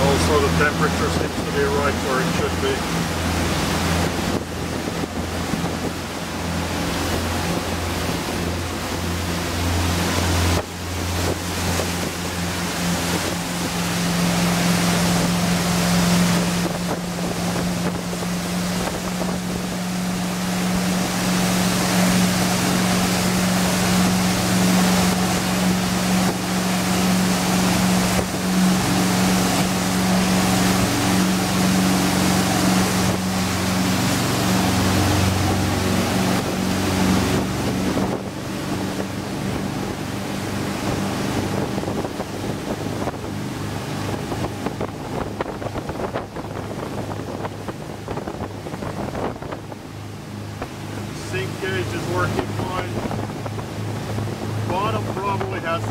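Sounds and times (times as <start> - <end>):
boat engines droning: 0.0 - 55.9
rush of boat wake: 0.0 - 55.9
wind on microphone: 0.0 - 55.9.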